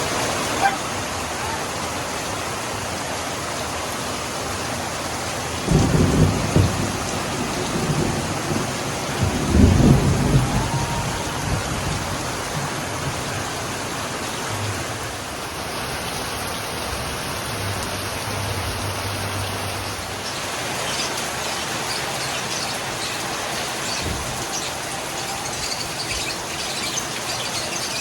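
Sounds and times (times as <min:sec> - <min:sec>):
heavy rain: 0:00.0 - 0:28.0
patter of raindrops: 0:00.0 - 0:28.0.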